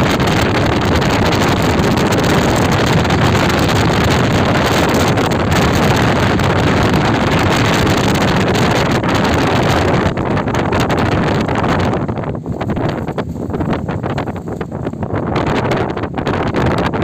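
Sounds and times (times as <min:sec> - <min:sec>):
speedboat engine: 0:00.0 - 0:17.0
wind blasting on microphone: 0:00.0 - 0:17.0.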